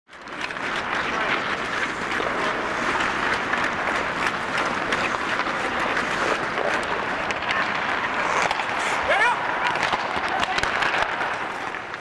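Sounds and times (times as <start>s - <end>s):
sticks clacking on pucks: 0.1s - 12.0s
skate blades scraping on ice: 0.2s - 12.0s.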